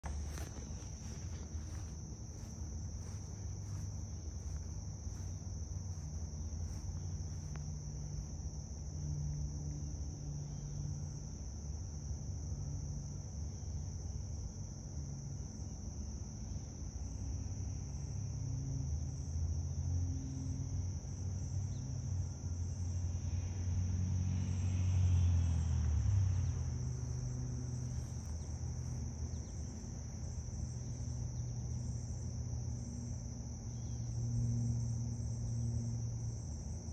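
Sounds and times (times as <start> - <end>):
high-pitched insect chorus: 0.0 - 36.9.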